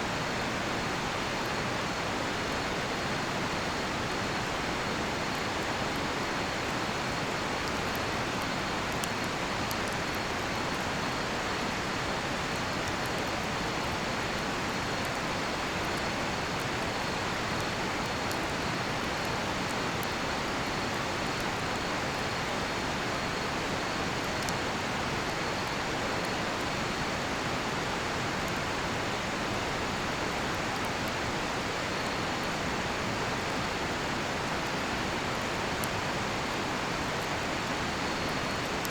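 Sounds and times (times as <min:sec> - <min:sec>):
campfire crackling: 0:02.1 - 0:38.9.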